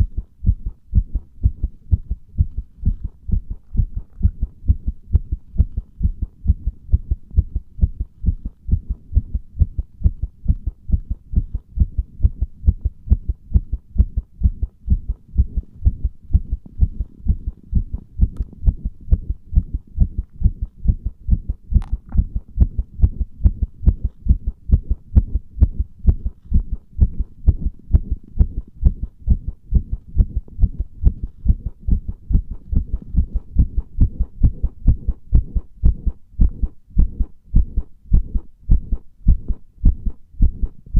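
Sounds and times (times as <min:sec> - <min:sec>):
heartbeat thuds: 0:00.0 - 0:40.9.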